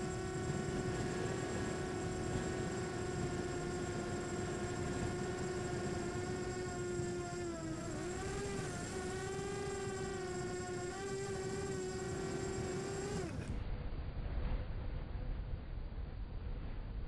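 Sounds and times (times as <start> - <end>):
drone propellers buzzing whine: 0.0 - 13.9.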